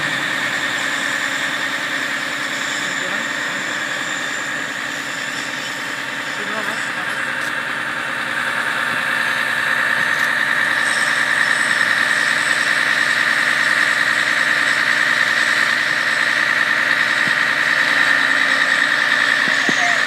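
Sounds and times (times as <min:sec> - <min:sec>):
fire truck engine whining: 0:00.0 - 0:20.0.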